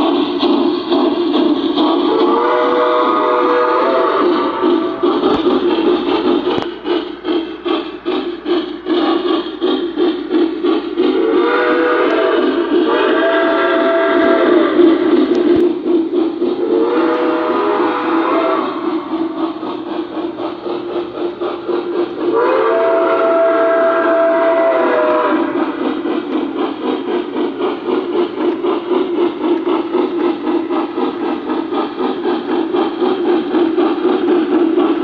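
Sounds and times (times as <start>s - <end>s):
steam locomotive chuffing: 0.0s - 35.0s.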